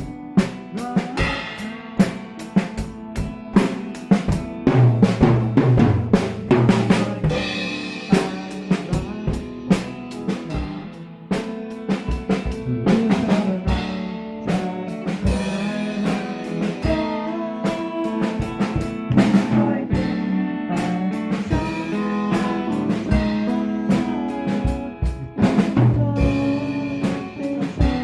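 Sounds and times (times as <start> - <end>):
drum kit steady beat: 0.0 - 28.0
live band playing: 0.0 - 28.0.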